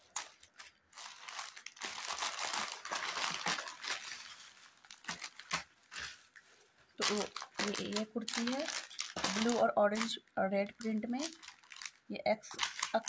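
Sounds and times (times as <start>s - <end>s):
plastic crinkling and rustling: 0.0s - 13.0s.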